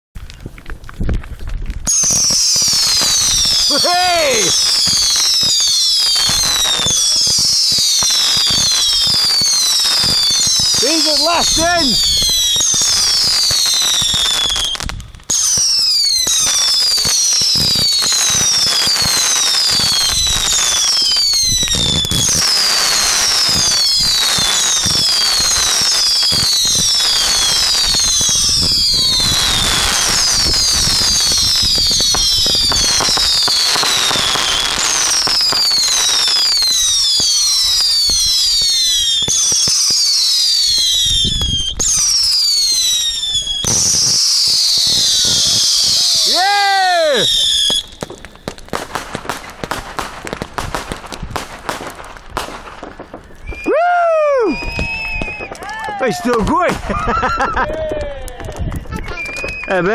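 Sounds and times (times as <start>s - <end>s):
fireworks crackling and popping: 0.0s - 59.9s
fireworks whistling: 1.8s - 59.9s.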